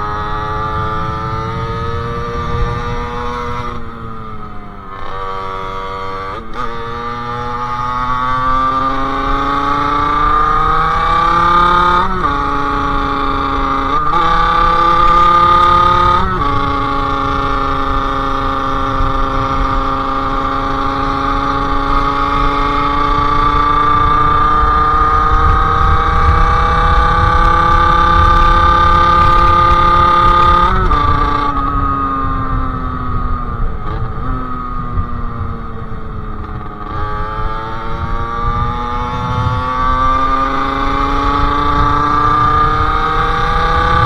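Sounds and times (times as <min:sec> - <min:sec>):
two-stroke motorcycle engine accelerating: 0:00.0 - 0:44.0.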